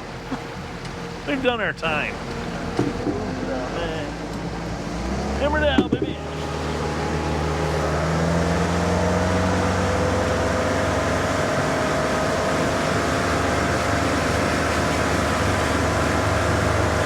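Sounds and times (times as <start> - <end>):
boat engine running hard: 0.0 - 17.0.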